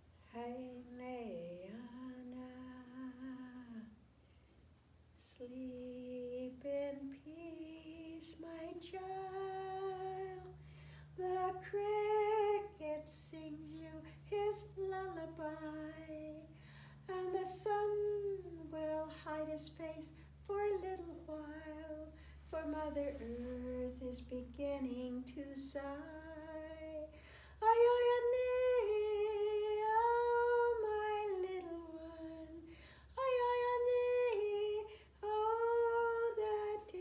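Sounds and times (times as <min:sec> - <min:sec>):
woman singing unaccompanied: 0:00.2 - 0:04.0, 0:05.2 - 0:37.0.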